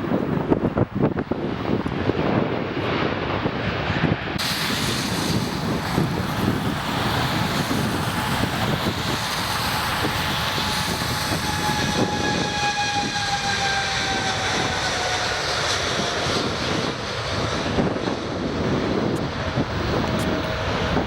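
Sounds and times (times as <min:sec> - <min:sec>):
jet engine roar: 0:00.0 - 0:21.0
wind gusting on microphone: 0:00.0 - 0:21.0.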